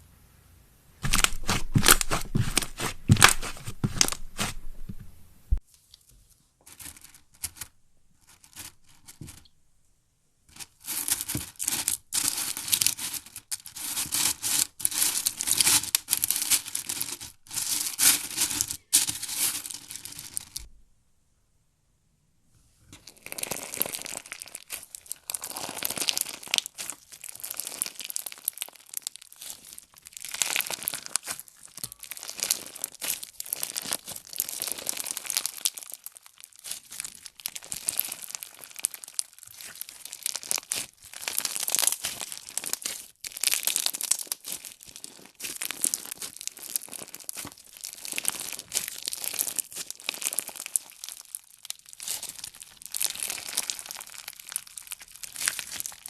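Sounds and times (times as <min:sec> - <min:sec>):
slime crackling and popping: 0:01.0 - 0:05.1, 0:10.6 - 0:20.7, 0:23.0 - 0:56.0.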